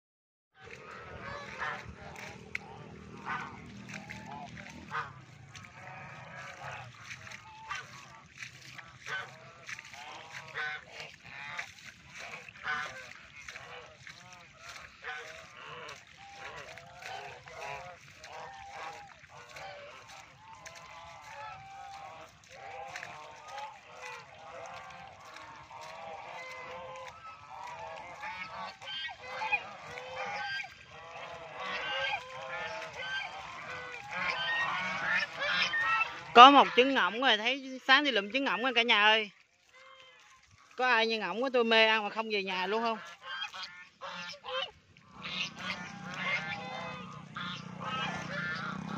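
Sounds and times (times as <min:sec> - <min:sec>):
geese honking: 0:00.6 - 0:39.1, 0:39.8 - 0:48.9.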